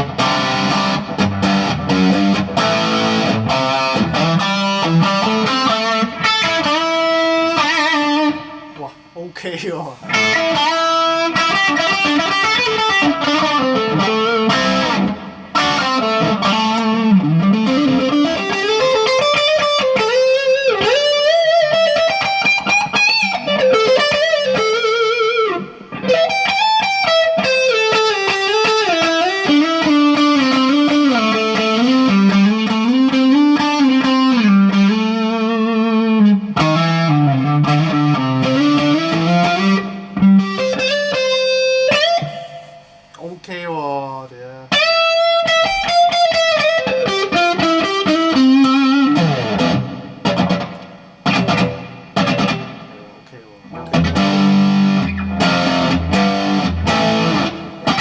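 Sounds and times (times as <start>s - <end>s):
electric guitar lead line: 0.0s - 9.2s, 10.0s - 43.4s, 44.6s - 58.0s.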